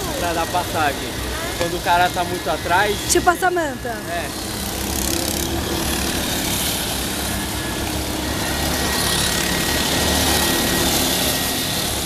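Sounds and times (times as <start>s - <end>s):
go-kart engines driving past: 0.0s - 12.0s.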